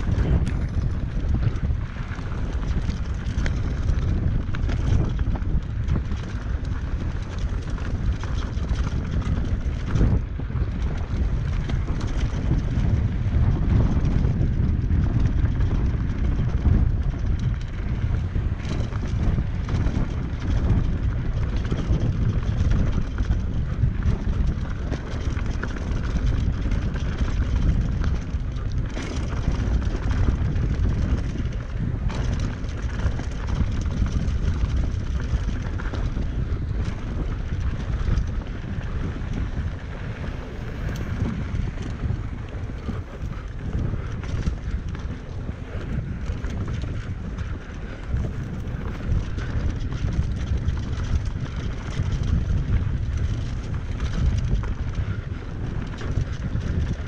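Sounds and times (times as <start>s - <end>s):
bike rattling on rough trail: 0.0s - 57.0s
wind buffeting microphone: 0.0s - 57.0s.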